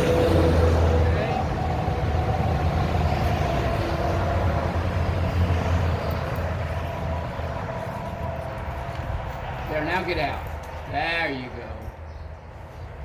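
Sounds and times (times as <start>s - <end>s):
tank engine rumble: 0.0s - 11.0s.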